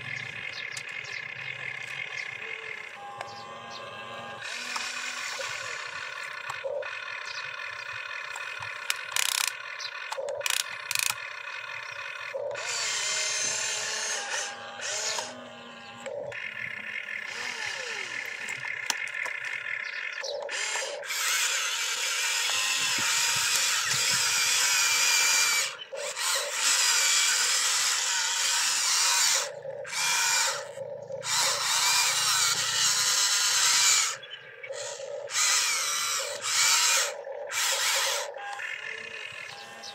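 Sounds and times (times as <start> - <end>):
model excavator motors whining: 0.0 - 39.9.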